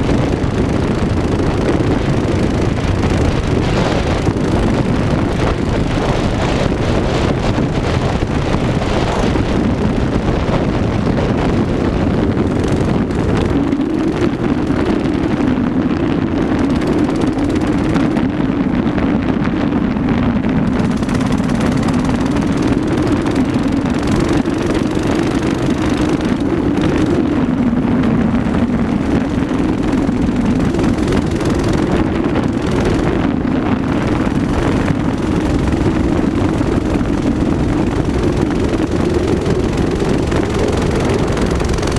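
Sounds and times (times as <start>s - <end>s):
mini bike engine running: 0.0s - 19.5s, 20.2s - 41.9s
wind buffeting microphone: 0.0s - 41.9s.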